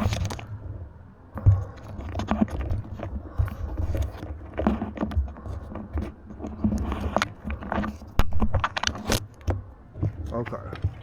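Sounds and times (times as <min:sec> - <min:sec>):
cable and connector handling: 0:01.8 - 0:11.0.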